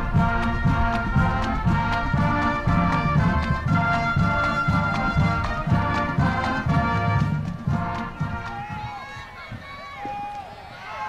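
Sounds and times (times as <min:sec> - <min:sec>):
marching band brass chords: 0:00.0 - 0:10.2
steady drum beat: 0:00.0 - 0:10.2.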